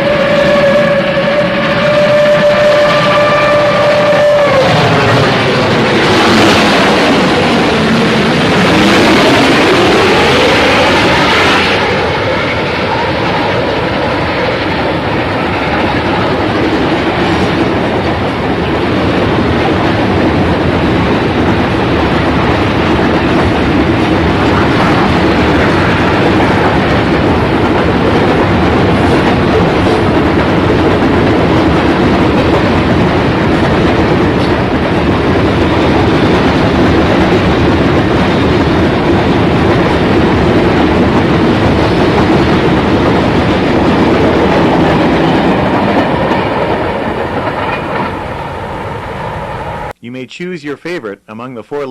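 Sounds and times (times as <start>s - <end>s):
train rolling on rails: 0.0s - 49.9s.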